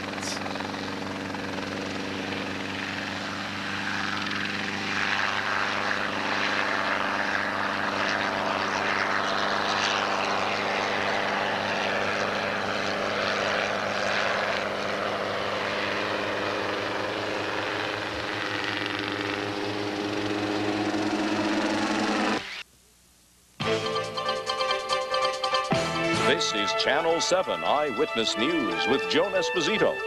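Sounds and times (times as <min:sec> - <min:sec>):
helicopter engine drone: 0:00.0 - 0:22.6, 0:23.6 - 0:30.0
helicopter rotor blades: 0:00.0 - 0:22.6, 0:26.3 - 0:30.0.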